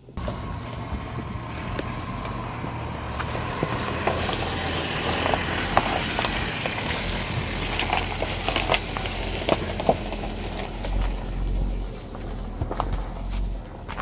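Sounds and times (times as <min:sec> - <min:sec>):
engine running at low speed: 0:00.0 - 0:14.0
tyres crunching on stones and gravel: 0:00.0 - 0:14.0.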